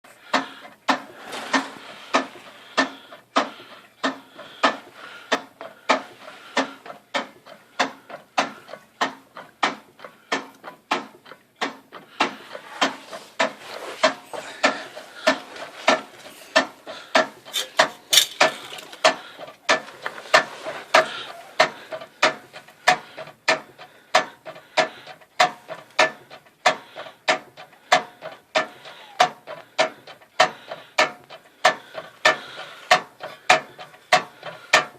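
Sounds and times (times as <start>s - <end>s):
driveline clunking: 0.2s - 34.9s.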